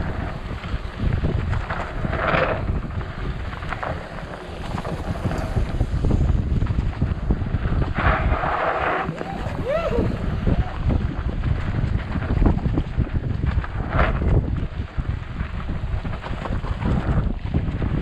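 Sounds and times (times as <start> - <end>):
steady low rumble: 0.0 - 18.0
wind buffeting microphone: 0.0 - 18.0.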